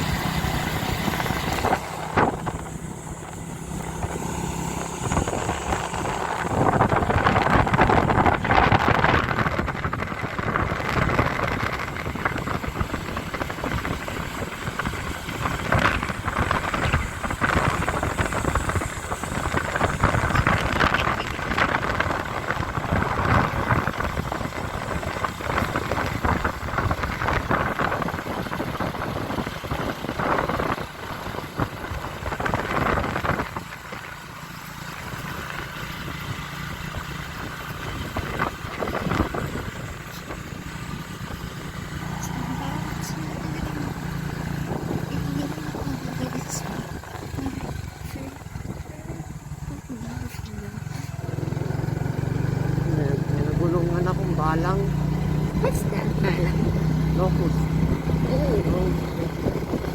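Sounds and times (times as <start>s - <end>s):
motorcycle engine: 0.0s - 59.9s
wind buffeting microphone: 0.0s - 59.9s.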